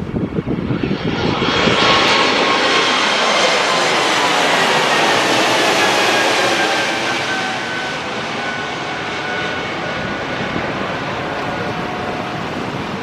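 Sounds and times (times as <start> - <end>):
jet engines passing: 0.0 - 13.0.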